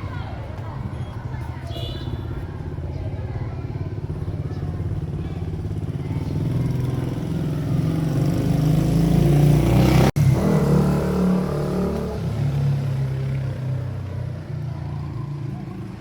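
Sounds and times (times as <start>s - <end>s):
vehicle engine approaching: 2.6s - 16.0s.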